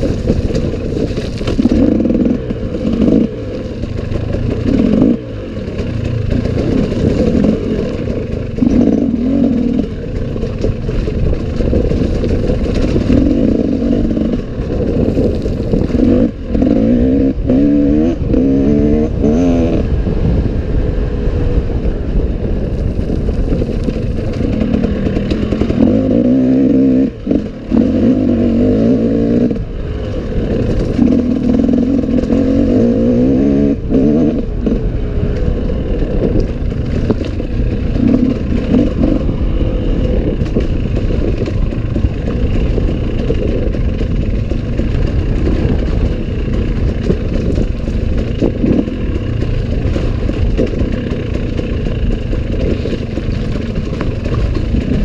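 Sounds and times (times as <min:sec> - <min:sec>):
bike clattering and scraping: 0:00.0 - 0:19.9, 0:22.5 - 0:55.0
motorcycle engine revving: 0:00.0 - 0:55.0.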